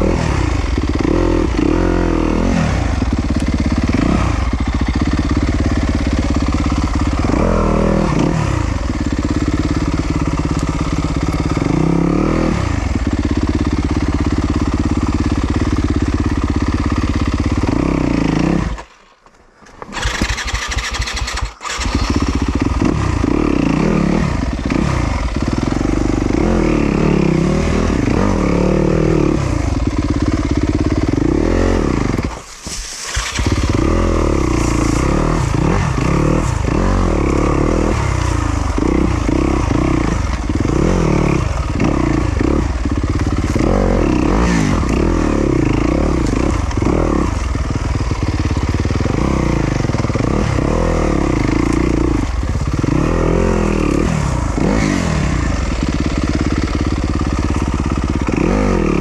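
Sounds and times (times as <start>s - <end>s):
dirt bike engine revving: 0.0s - 18.9s, 19.8s - 59.0s.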